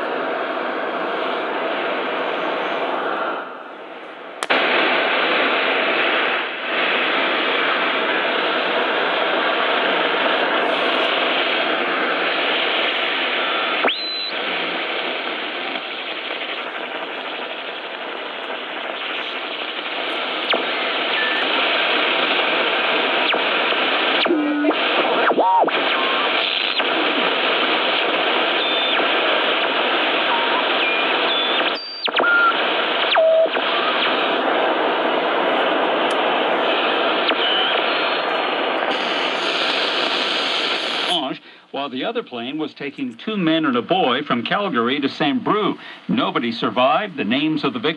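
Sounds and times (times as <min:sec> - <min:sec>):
radio static hiss: 0:00.0 - 0:47.9.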